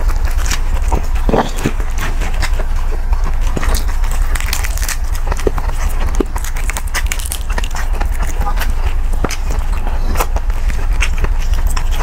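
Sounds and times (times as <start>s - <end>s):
crunching and chewing: 0.0s - 12.0s
fingers tearing crackling: 0.0s - 12.0s
steady low hum: 0.0s - 12.0s.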